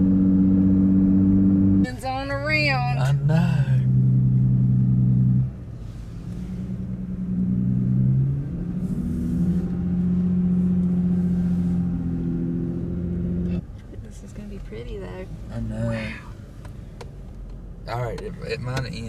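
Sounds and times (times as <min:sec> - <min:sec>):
car engine and road noise in cabin: 0:00.0 - 0:19.0.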